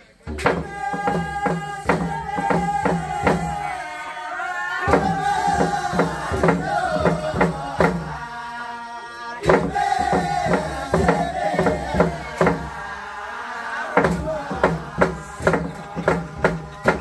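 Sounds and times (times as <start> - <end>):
group chanting in unison: 0.0 - 17.0
steady drumbeat: 0.2 - 3.8, 4.9 - 8.2, 9.4 - 13.0, 13.8 - 17.0.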